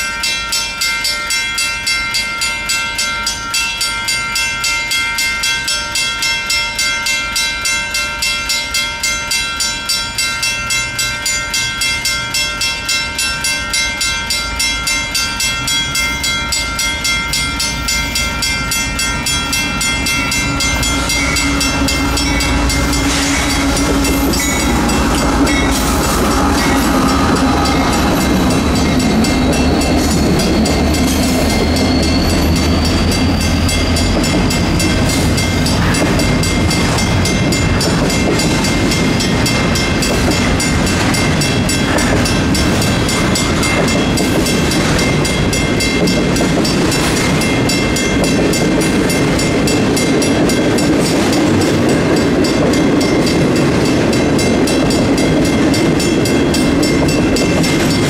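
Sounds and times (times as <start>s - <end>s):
crossing bells ringing: 0.0s - 58.0s
freight train wheels rumbling: 0.0s - 58.0s.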